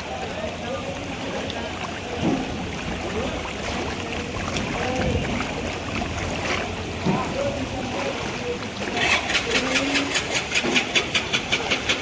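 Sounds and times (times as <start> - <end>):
floodwater sloshing: 0.0 - 12.0
small splashes: 0.0 - 12.0.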